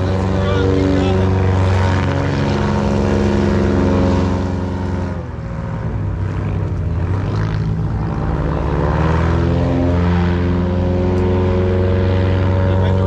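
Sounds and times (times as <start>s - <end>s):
airboat engine and propeller: 0.0s - 13.0s.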